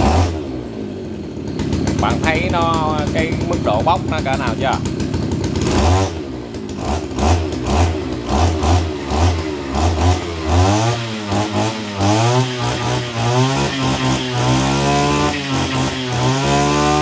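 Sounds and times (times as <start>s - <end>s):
brushcutter engine revving: 0.0s - 17.0s.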